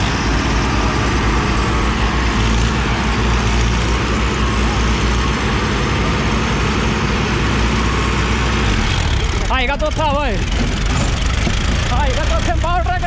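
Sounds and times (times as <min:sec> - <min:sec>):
diesel tractor engines running: 0:00.0 - 0:13.0.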